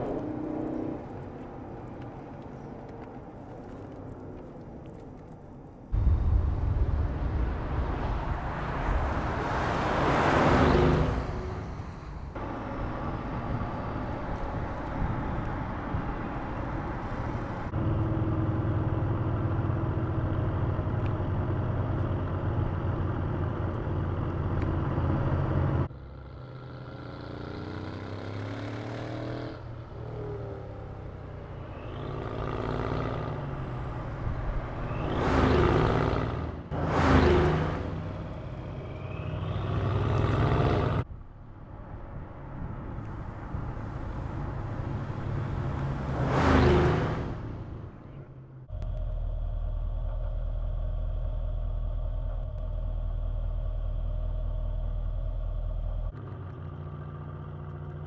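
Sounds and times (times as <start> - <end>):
car engine driving: 0.0 - 58.0.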